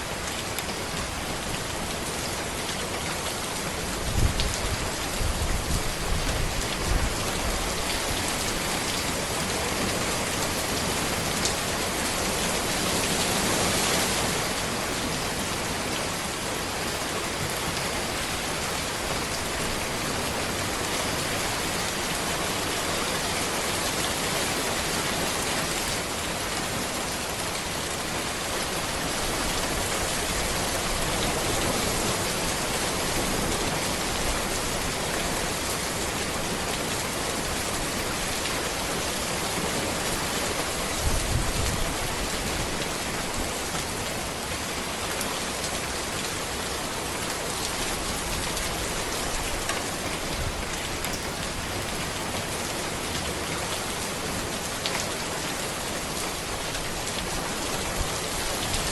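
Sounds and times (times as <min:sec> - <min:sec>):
dense rain on a road: 0:00.0 - 0:58.9.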